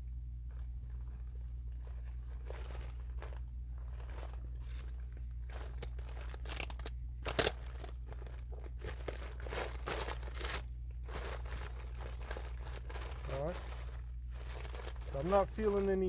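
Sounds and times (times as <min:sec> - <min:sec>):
air duct crinkling and rustling: 0:00.0 - 0:16.0
steady low hum: 0:00.0 - 0:16.0.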